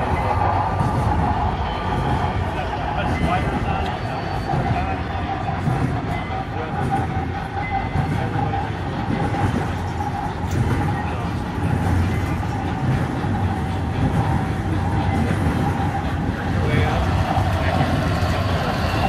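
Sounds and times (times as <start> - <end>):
small wheels rumbling on rail joints: 0.0 - 19.0.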